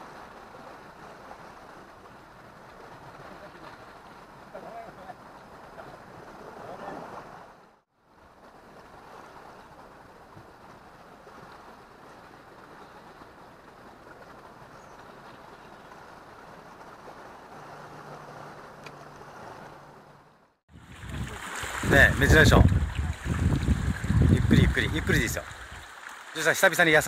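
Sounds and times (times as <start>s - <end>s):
sea surf on rocky shore: 0.0s - 27.0s.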